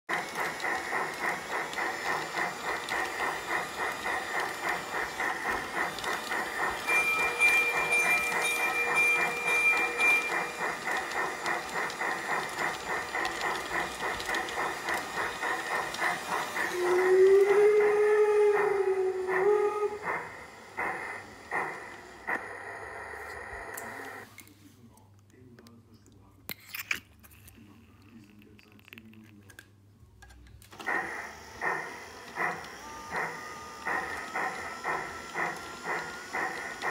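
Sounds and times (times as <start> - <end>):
model train steam chuffing: 0.1 - 24.2, 30.8 - 36.9.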